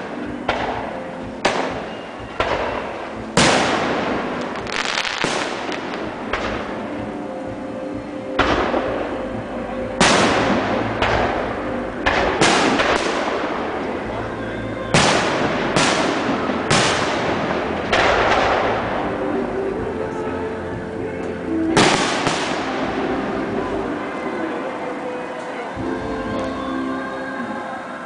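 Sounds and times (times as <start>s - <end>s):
fireworks bursting with echo: 0.0s - 20.4s, 21.0s - 25.2s.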